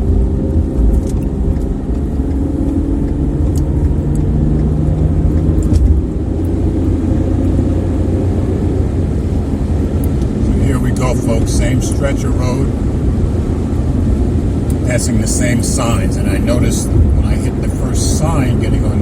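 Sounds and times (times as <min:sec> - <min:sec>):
car engine hum inside cabin: 0:00.0 - 0:19.0
road noise rumble: 0:00.0 - 0:19.0.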